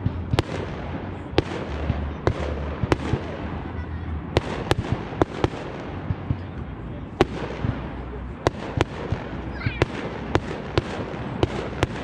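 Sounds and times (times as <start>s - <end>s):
fireworks bangs: 0.0s - 12.0s
steady background rumble: 0.0s - 12.0s.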